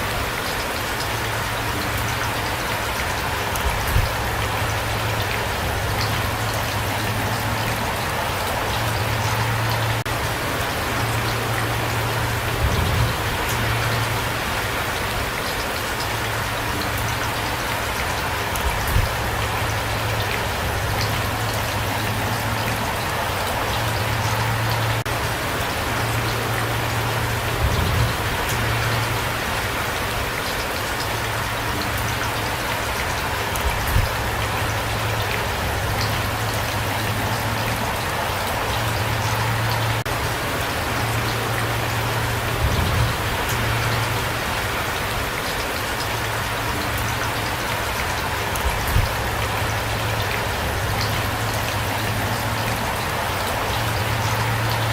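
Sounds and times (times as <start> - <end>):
rain patter: 0.0 - 54.9.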